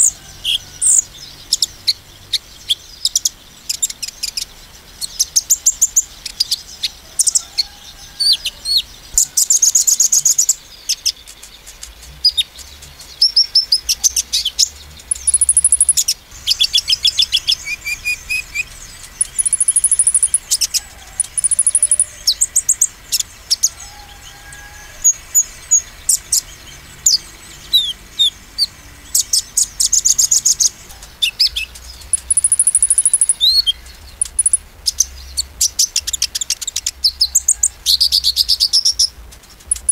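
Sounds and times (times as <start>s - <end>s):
sunbird singing trills: 0.0s - 39.9s.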